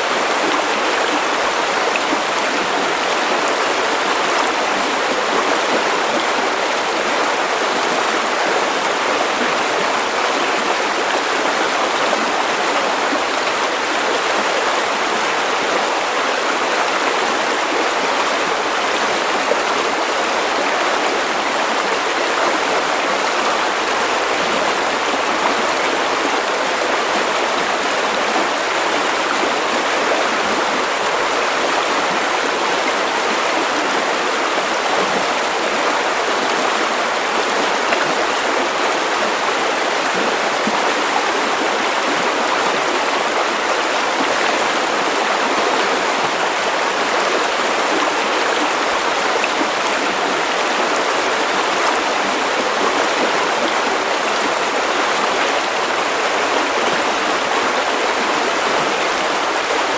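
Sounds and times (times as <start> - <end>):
river water over stones: 0.0 - 59.9.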